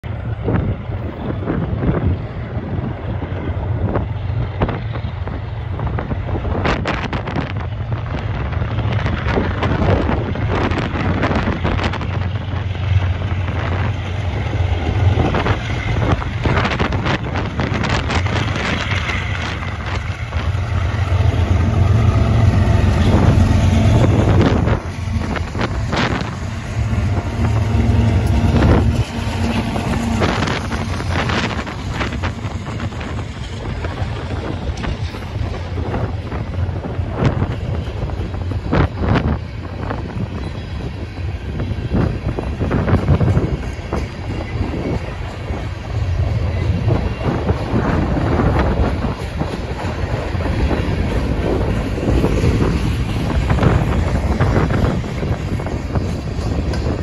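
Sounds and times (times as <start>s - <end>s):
diesel locomotive drone: 0.0s - 57.0s
train rumble: 0.0s - 57.0s
wind buffeting microphone: 0.0s - 57.0s
steel wheels clattering on rails: 0.1s - 57.0s.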